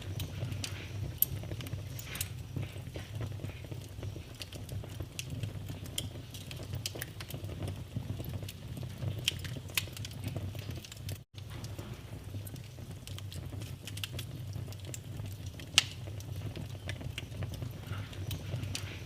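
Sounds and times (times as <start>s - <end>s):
low rumble of burning: 0.0s - 19.0s
wood fire crackling and popping: 0.0s - 19.0s.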